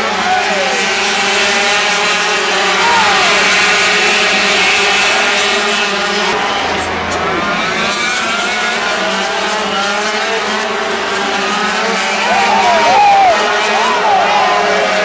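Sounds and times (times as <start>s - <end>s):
racing motorcycles at high revs: 0.0s - 15.0s.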